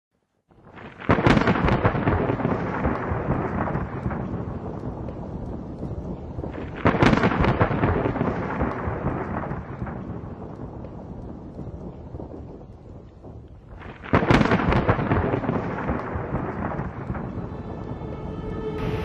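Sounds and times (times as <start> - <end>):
thunder crack and rolling rumble: 0.5 - 19.0.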